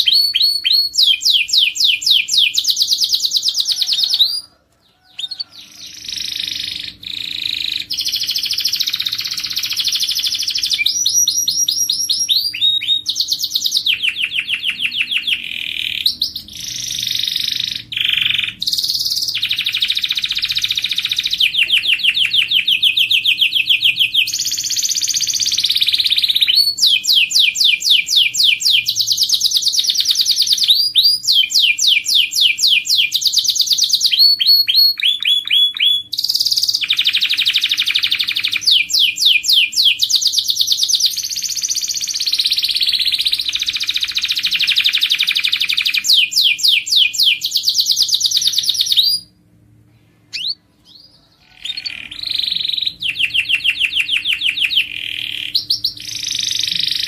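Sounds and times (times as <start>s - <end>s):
canary singing trills: 0.0s - 49.4s, 50.2s - 57.0s.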